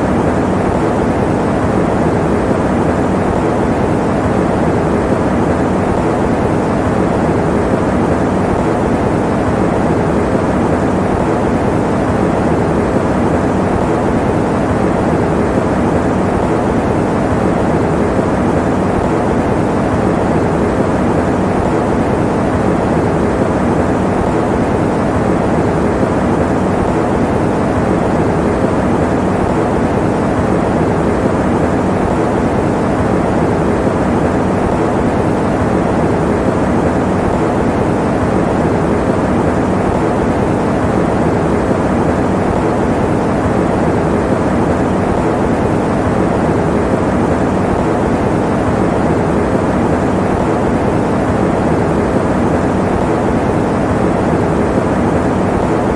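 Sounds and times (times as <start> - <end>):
electric fan running: 0.0 - 55.9.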